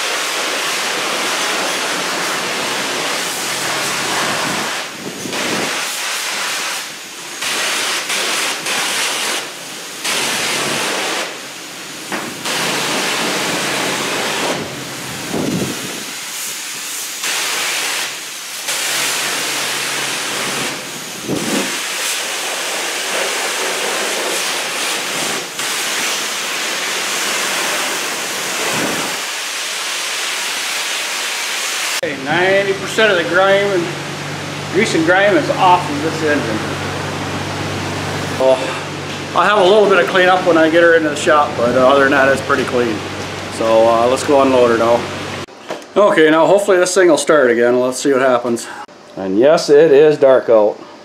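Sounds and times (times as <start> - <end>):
pressure washer spraying: 0.0 - 45.5.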